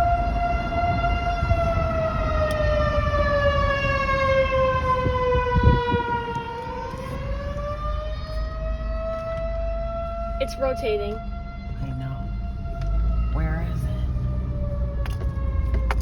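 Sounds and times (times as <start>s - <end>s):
distant rotating warning siren: 0.0s - 16.0s
low vehicle rumble: 0.0s - 16.0s.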